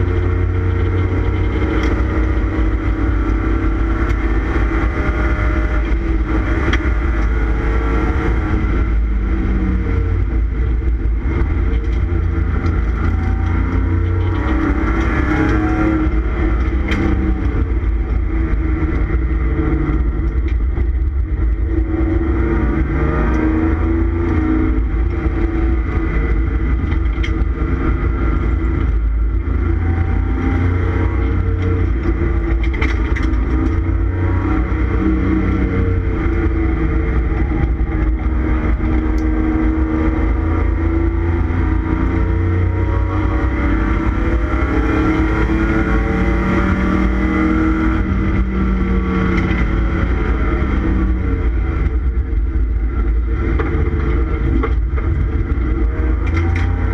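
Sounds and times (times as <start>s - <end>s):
race car engine revving: 0.0s - 56.9s
road and wind rumble: 0.0s - 56.9s.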